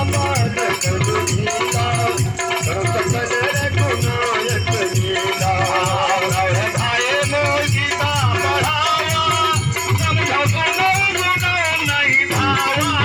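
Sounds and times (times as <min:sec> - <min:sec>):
dholak drum beat: 0:00.0 - 0:13.0
rattling percussion: 0:00.0 - 0:13.0
small hand cymbals: 0:00.0 - 0:13.0.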